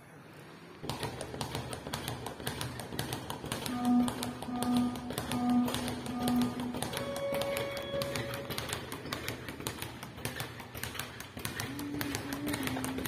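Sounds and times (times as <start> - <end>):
speed bag rattling: 0.8 - 13.0.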